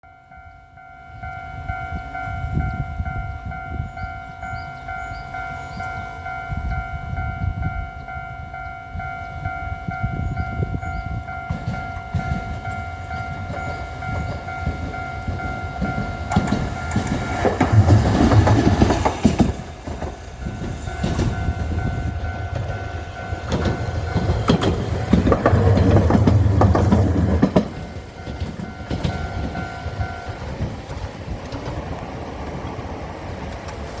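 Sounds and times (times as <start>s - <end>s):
level-crossing alarm ringing: 0.0s - 18.8s, 19.9s - 30.8s
trams passing: 0.1s - 34.0s.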